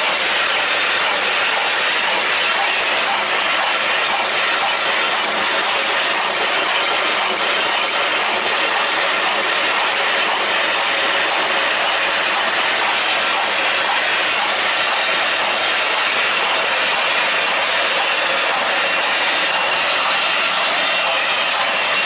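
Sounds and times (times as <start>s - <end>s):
machine metallic clatter: 0.0s - 22.0s.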